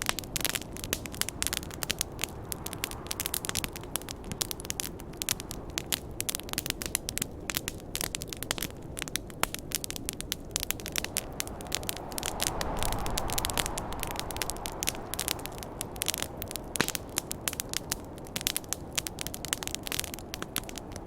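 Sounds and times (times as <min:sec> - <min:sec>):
campfire crackling and popping: 0:00.0 - 0:21.0
low steady fire rush: 0:00.0 - 0:21.0.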